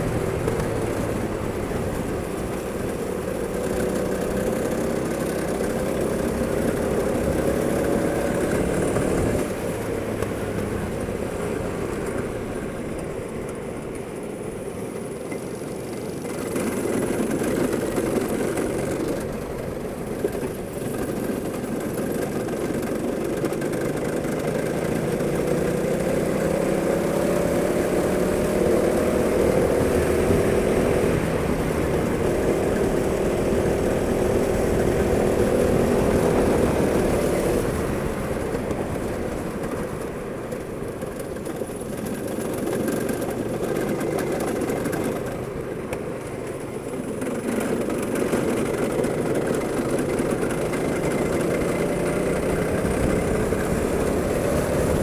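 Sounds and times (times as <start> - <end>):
go-kart engine revving: 0.0 - 55.0.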